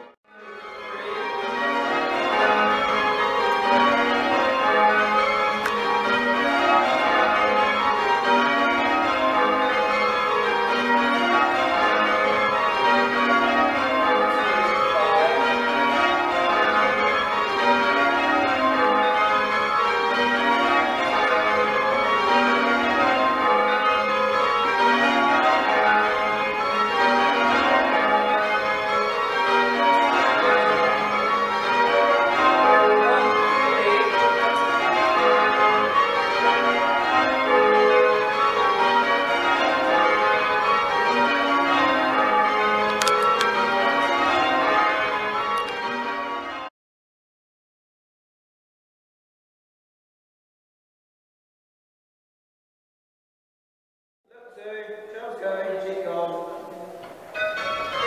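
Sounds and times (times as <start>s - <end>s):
church bells ringing: 0.0s - 46.7s, 54.3s - 58.0s.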